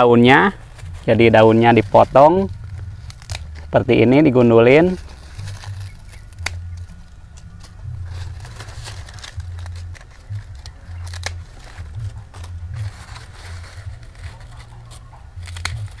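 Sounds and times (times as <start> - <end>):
low rumble: 0.0 - 16.0
pruning shears snipping: 1.0 - 16.0.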